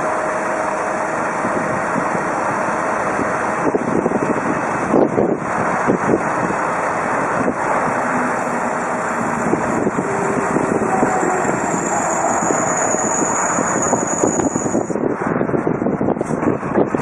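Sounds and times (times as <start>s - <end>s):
heavy machinery engine: 0.0s - 15.0s
wind buffeting microphone: 1.2s - 17.0s.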